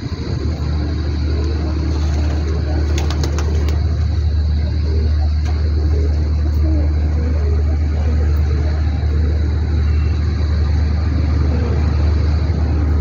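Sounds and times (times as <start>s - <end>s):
low engine rumble: 0.0s - 13.0s
pigeons cooing: 0.0s - 13.0s.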